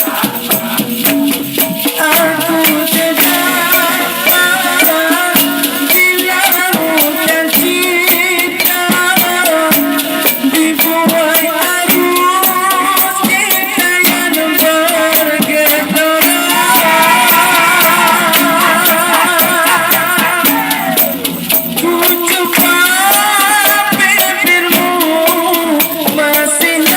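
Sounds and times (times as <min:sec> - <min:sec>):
band playing pop music: 0:02.0 - 0:26.9.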